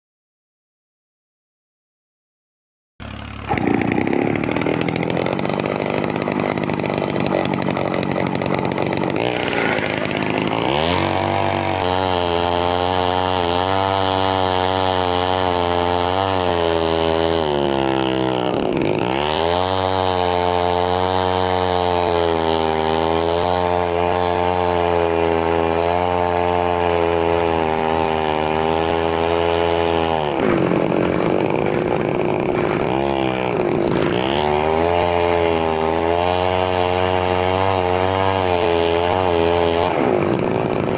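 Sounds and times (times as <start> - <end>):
chainsaw engine running: 3.0 - 40.9.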